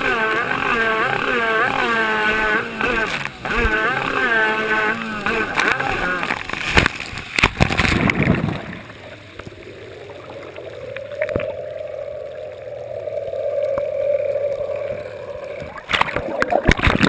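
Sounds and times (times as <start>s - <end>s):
water noise: 0.0s - 17.0s
water splashing: 0.0s - 17.0s
watercraft engine humming: 0.0s - 17.0s.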